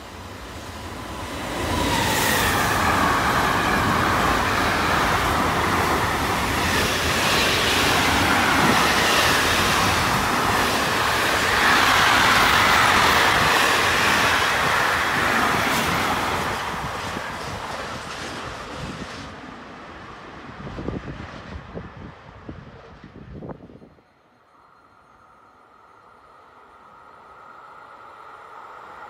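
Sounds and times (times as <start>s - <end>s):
ringing hiss of train: 0.0s - 19.3s, 23.4s - 29.0s
freight train wheels on rail: 0.0s - 29.0s.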